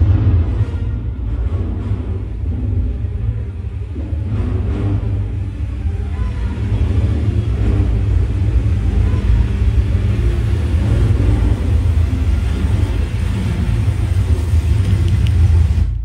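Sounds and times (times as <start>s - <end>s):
deep rumble of destruction effects: 0.0s - 16.0s.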